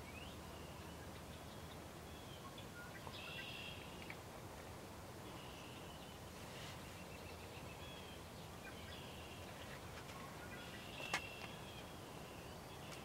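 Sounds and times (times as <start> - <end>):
songbirds calling: 0.0 - 13.0.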